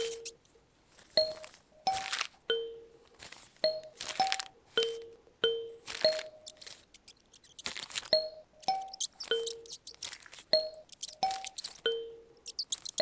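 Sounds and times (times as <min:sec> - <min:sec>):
paper rustling: 0:00.0 - 0:02.4, 0:03.0 - 0:05.1, 0:05.8 - 0:11.8, 0:12.4 - 0:13.0.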